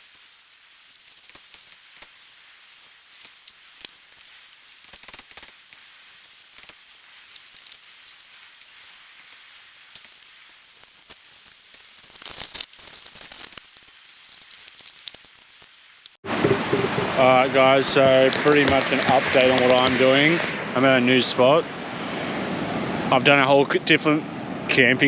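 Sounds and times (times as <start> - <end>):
campfire sizzling and crackling: 0.0 - 21.2.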